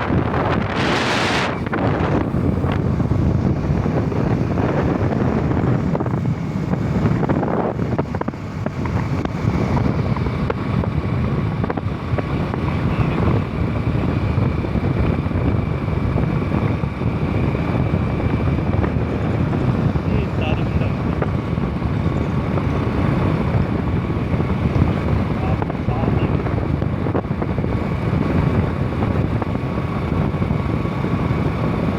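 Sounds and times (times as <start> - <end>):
wind noise on microphone: 0.0 - 31.9.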